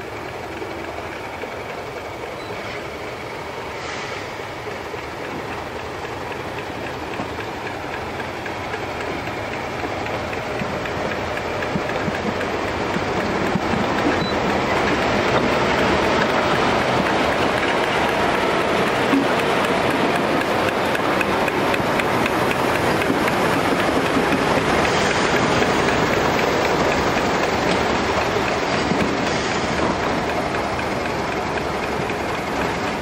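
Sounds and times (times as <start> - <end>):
diesel locomotive passing: 0.0 - 33.0.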